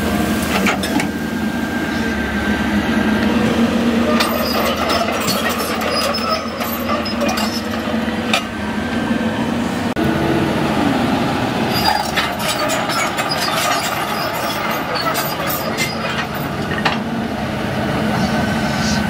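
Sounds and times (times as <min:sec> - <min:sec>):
steel tracks clanking and squealing: 0:00.0 - 0:08.8, 0:11.6 - 0:17.2, 0:18.0 - 0:19.0
diesel engine running: 0:00.0 - 0:19.0.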